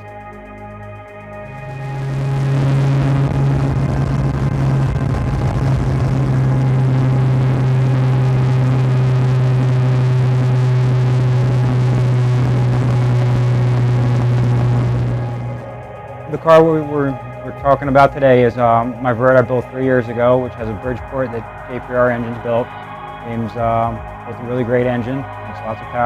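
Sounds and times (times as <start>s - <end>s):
rotary engine running: 1.3s - 26.0s.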